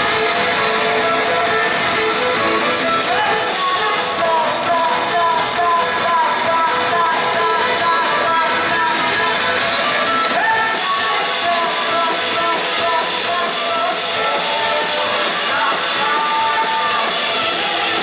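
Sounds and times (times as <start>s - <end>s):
drums and cymbals: 0.0s - 18.0s
guitars: 0.0s - 18.0s.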